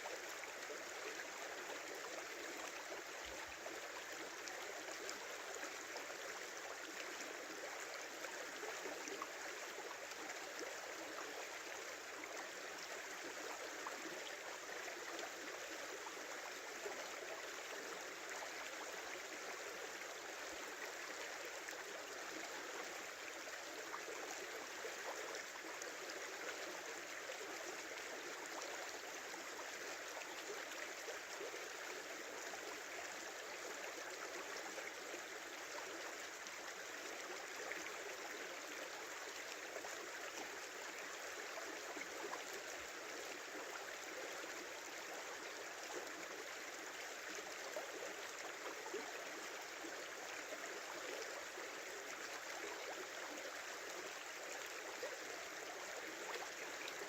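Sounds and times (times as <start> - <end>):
faint water gurgling: 0.0 - 57.0.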